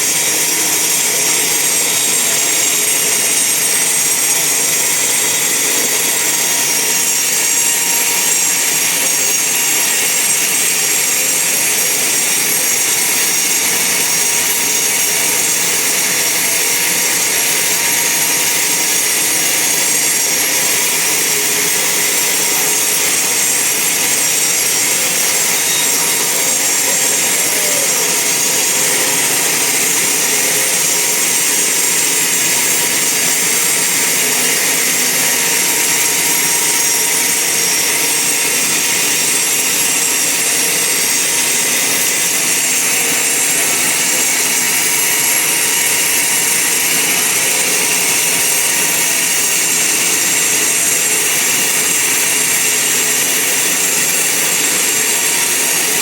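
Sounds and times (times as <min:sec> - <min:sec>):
band saw blade cutting log: 0:00.0 - 0:56.0.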